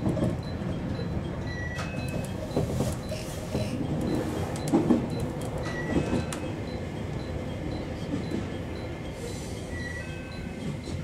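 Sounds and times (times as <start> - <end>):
electric train running rumble: 0.0 - 11.0.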